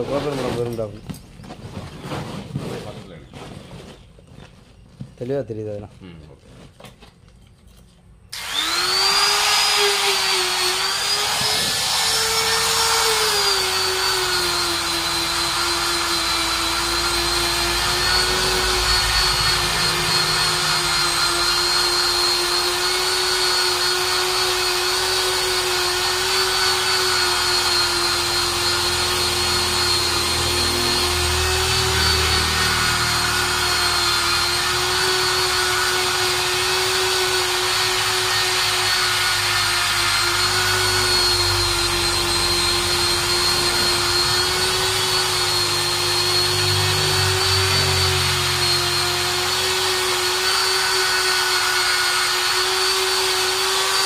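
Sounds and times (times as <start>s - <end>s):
electric drill whining: 8.3s - 54.0s.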